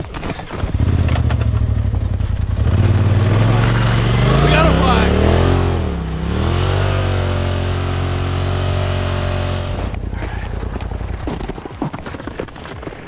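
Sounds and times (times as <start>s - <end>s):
off-road vehicle engine under throttle: 0.0s - 11.6s.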